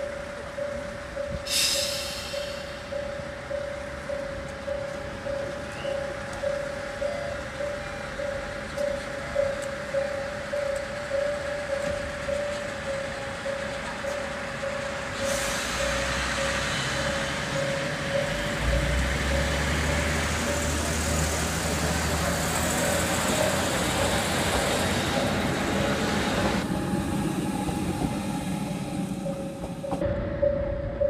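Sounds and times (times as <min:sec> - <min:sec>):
diesel railcar engine and wheels: 0:00.0 - 0:31.0.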